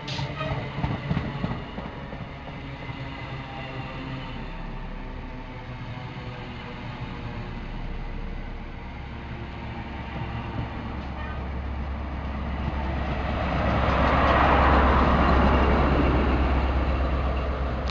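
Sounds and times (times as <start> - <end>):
train coaches rumbling past: 0.0 - 17.9
low diesel hum: 1.4 - 17.9.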